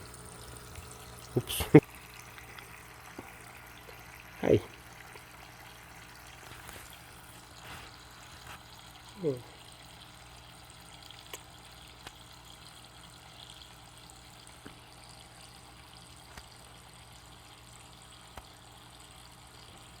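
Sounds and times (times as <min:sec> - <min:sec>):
faint trickle of water: 0:00.0 - 0:20.0.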